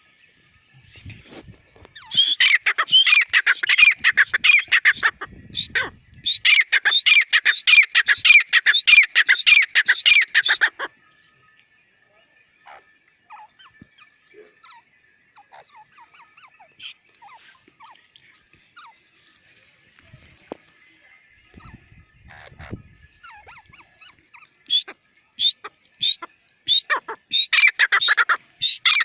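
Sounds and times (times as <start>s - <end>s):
faint bird chirps: 0.2s - 29.0s
partridge ringing calls: 0.8s - 11.2s, 12.4s - 29.0s.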